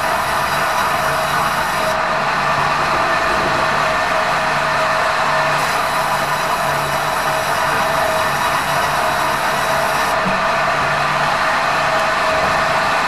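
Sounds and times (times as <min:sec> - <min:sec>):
sawmill saw cutting timber: 0:00.0 - 0:13.0.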